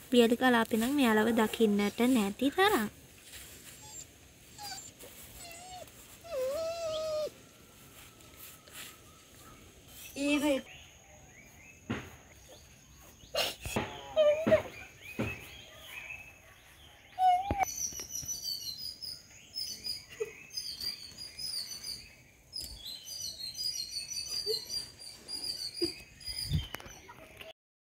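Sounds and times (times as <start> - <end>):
small birds twittering: 3.6 - 27.5.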